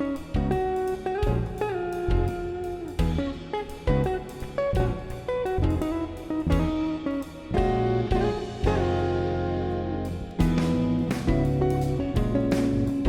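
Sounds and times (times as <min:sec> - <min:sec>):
light drum beat: 0:00.0 - 0:13.0
plucked guitar: 0:00.0 - 0:13.0.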